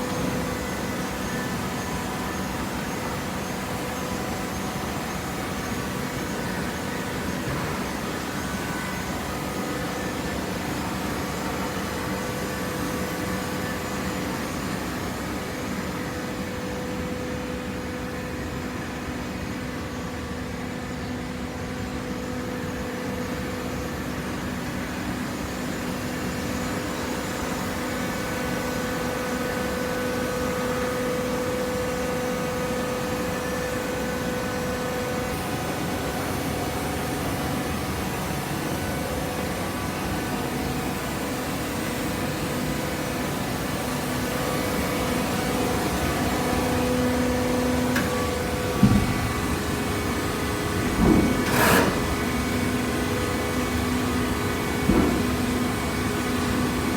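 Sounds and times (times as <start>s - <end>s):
paper baler hum with whine: 0.0s - 56.9s.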